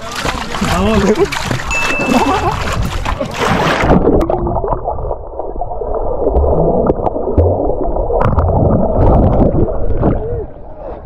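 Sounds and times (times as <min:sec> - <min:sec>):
water splash: 0:00.0 - 0:10.2
muffled underwater gurgling: 0:00.0 - 0:11.0.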